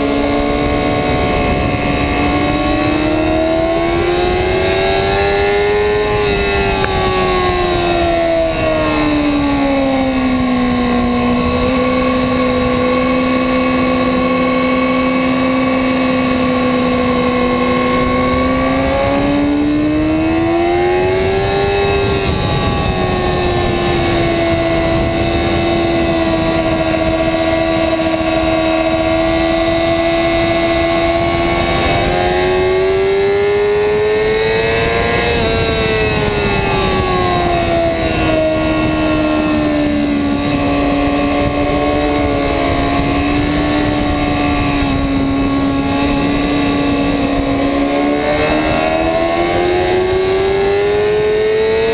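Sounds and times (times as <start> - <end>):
motorcycle engine at high revs: 0.0 - 51.9
steady rushing noise: 0.0 - 51.9.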